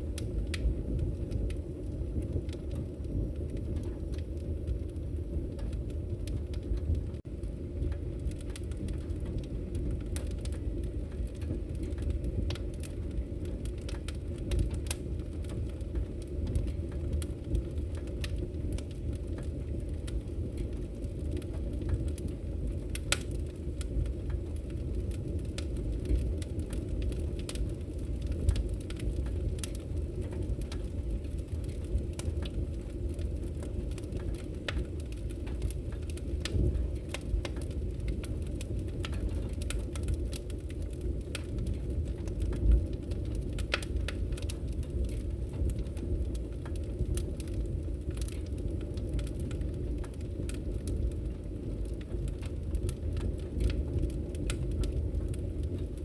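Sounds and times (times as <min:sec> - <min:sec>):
campfire rumbling: 0:00.0 - 0:56.0
fire crackling and popping: 0:00.0 - 0:56.0.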